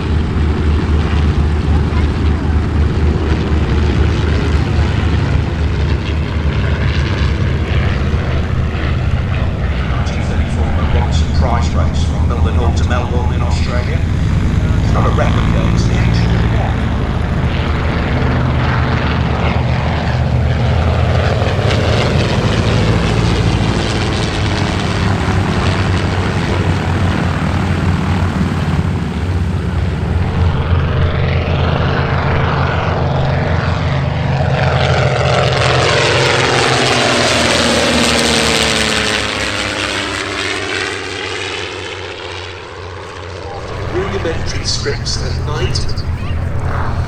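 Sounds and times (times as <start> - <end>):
propeller aircraft flying past: 0.0 - 47.0.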